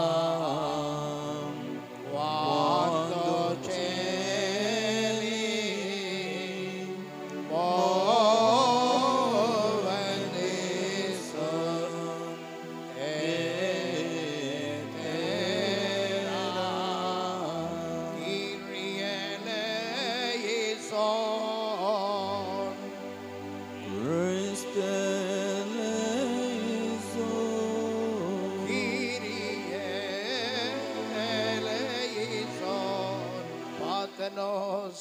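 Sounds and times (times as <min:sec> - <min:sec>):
person singing slow hymn: 0:00.0 - 0:35.0.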